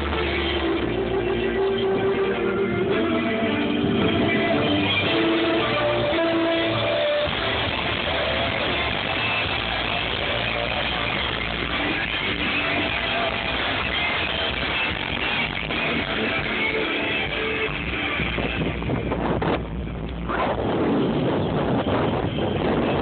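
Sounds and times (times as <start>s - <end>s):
music through car speakers: 0.0s - 23.0s.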